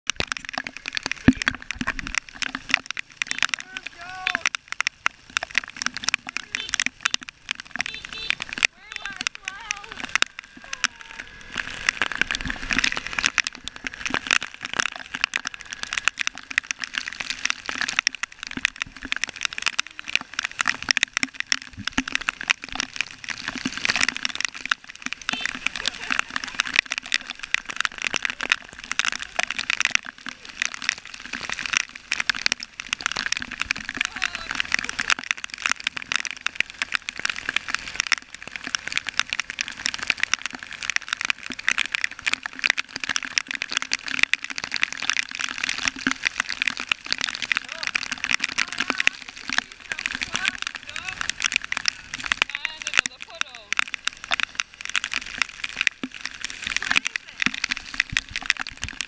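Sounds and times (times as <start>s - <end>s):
heavy rain on hard surfaces: 0.0s - 59.0s.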